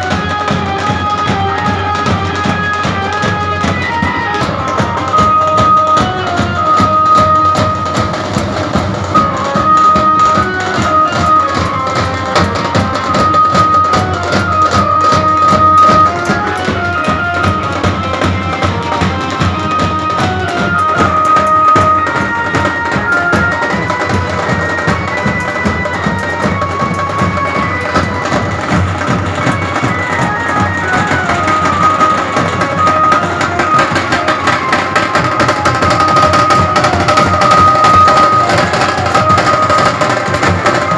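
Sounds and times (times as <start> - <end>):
drums beaten in fast rhythm: 0.0 - 40.9
high held melody: 0.0 - 40.9.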